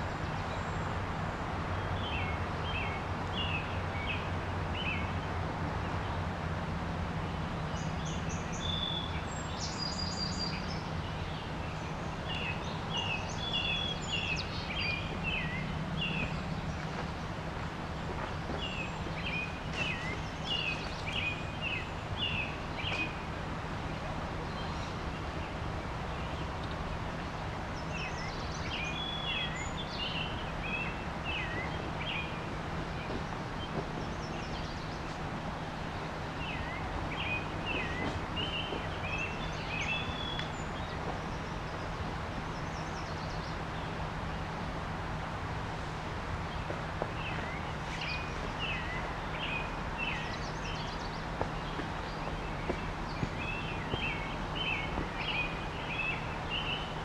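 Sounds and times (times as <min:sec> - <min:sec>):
songbird chirping: 0:00.0 - 0:45.4, 0:46.0 - 0:57.0
river water rushing: 0:00.0 - 0:57.0.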